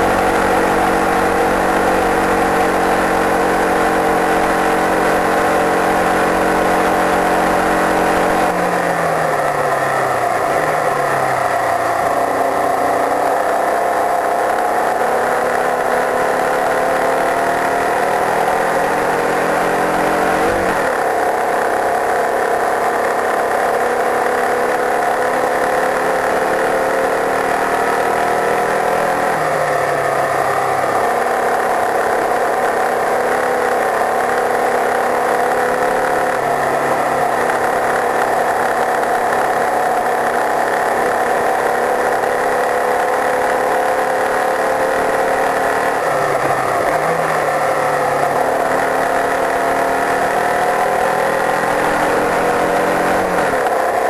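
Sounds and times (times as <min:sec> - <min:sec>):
gear changes: 0:00.0 - 0:54.0
racing car engine accelerating: 0:00.0 - 0:54.0.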